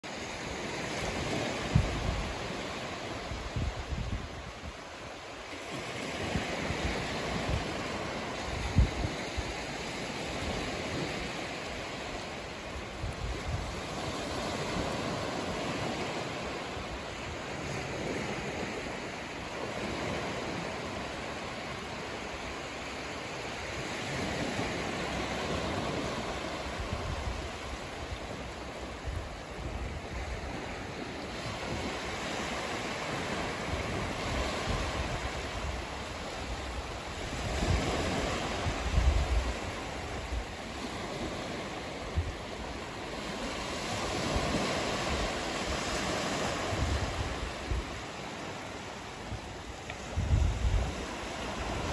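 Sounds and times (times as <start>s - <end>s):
gentle waves breaking on beach: 0.0s - 51.9s
wind buffeting microphone: 0.4s - 21.2s, 23.7s - 51.9s.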